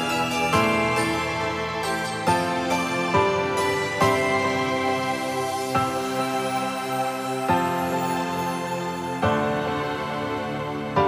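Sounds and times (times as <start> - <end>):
soft background music chords: 0.0 - 11.0.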